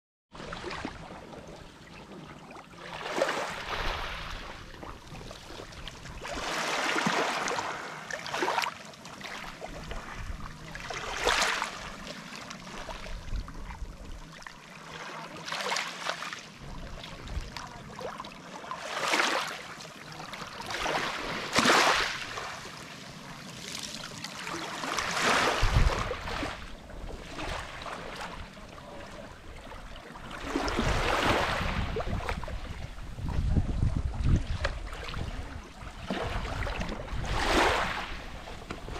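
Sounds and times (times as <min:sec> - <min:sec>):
waves lapping on pebbles: 0:02.7 - 0:33.6, 0:34.4 - 0:38.9.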